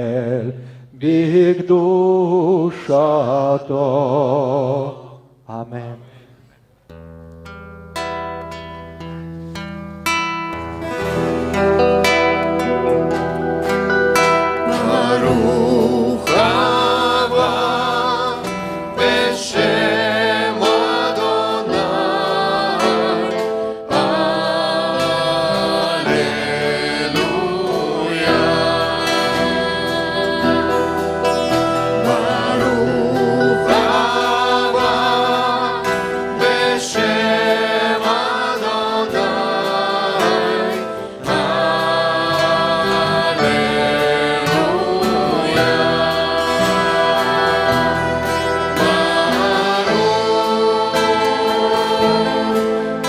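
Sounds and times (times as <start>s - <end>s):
group singing worship song: 0.0s - 5.4s, 10.8s - 53.0s
acoustic guitar: 6.0s - 53.0s.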